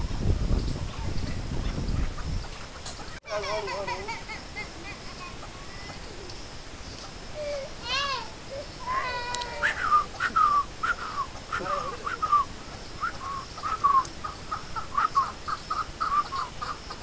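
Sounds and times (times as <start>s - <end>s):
birds calling: 0.4s - 17.0s.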